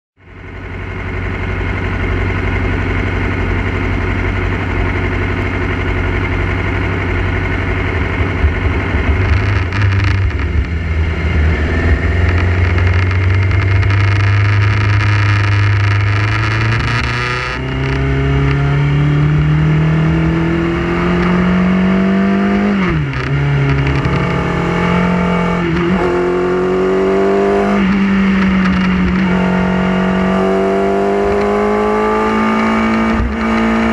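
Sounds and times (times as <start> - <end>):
motorcycle engine accelerating: 0.3 - 33.9.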